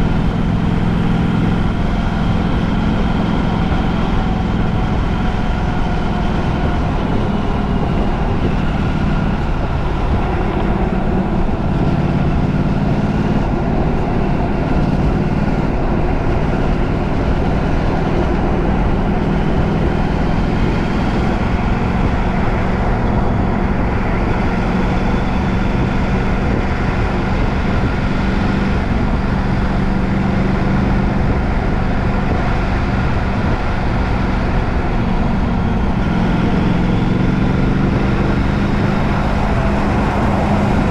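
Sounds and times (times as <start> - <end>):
moving vehicle running noise: 0.0 - 40.9.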